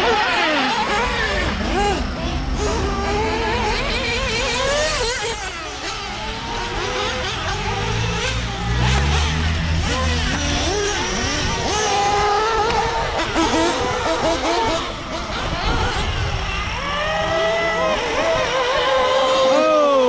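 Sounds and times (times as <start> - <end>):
nitro rc truck engine: 0.0 - 20.0.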